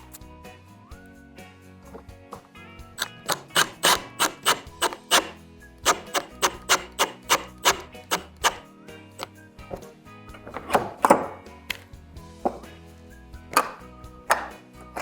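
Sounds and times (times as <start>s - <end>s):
background music with clicking beat: 0.0s - 15.0s.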